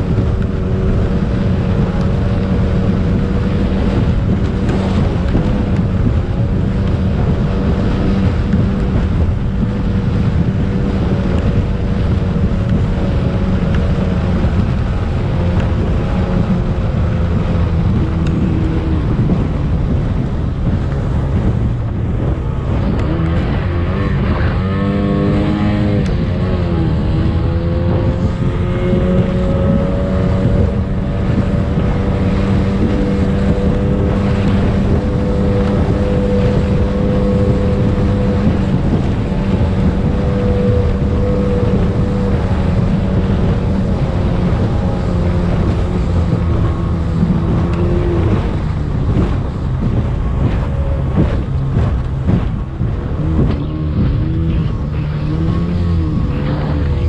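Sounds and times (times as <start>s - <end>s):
speedboat engine running hard: 0.0s - 57.0s
wind buffeting microphone: 0.0s - 57.0s.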